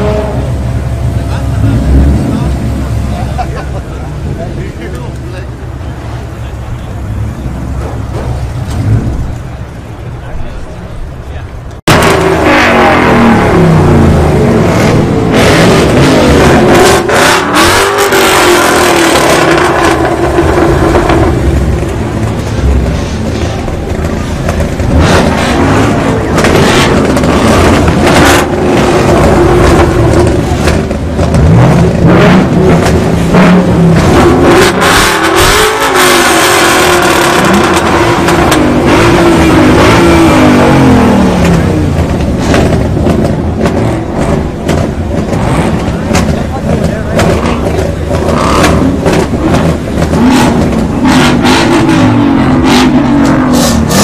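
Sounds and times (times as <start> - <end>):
car engine revving: 0.0 - 54.0
exhaust cracks: 0.0 - 54.0.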